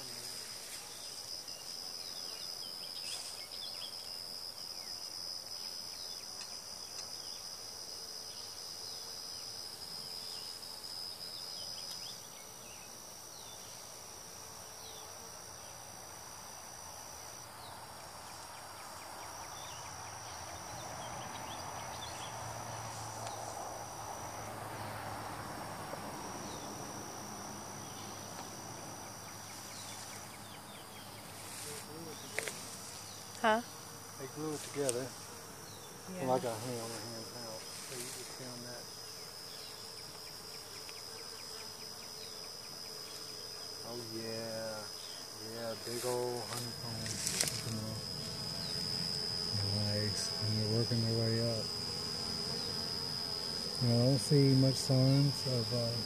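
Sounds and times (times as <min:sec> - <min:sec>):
bees buzzing: 0:00.0 - 0:56.0
high-pitched insect trill: 0:00.0 - 0:56.0.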